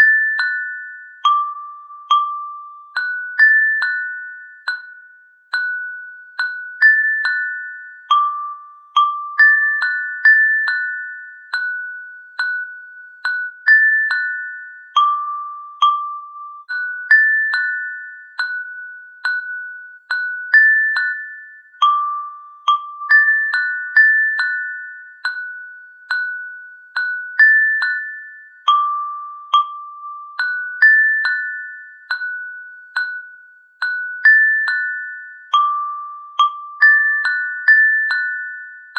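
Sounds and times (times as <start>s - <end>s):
bell-like melody: 0.0s - 38.9s.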